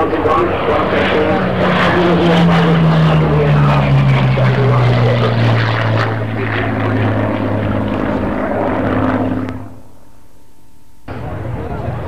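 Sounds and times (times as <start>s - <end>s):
propeller plane engine overhead: 0.0s - 12.0s.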